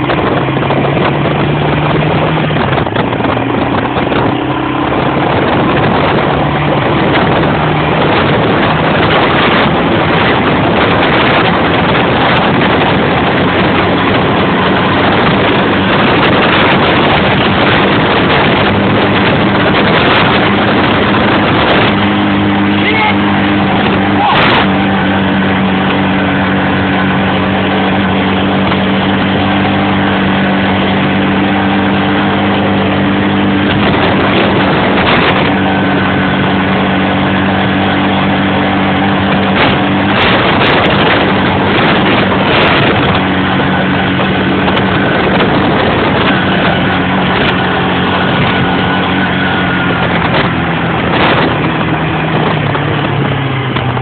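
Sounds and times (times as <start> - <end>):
quad bike engine running hard: 0.0 - 54.0.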